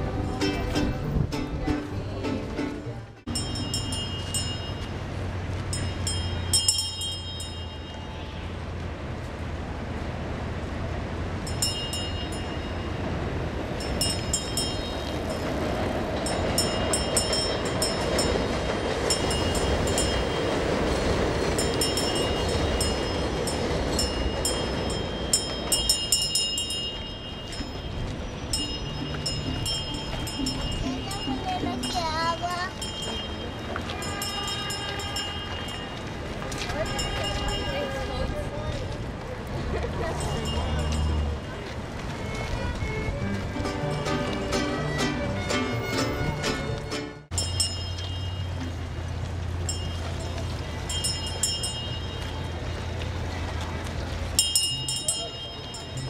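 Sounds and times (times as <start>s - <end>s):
wheels ringing on rails: 0.0s - 9.5s, 11.2s - 56.0s
elevated train rumbling: 9.0s - 56.0s.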